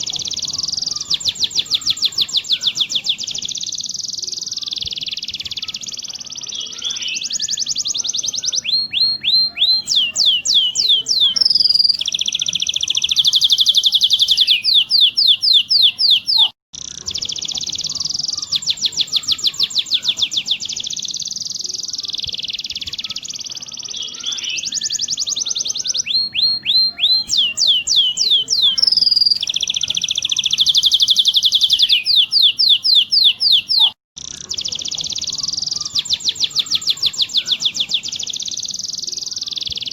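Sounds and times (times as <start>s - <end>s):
canary song trills: 0.0s - 39.9s.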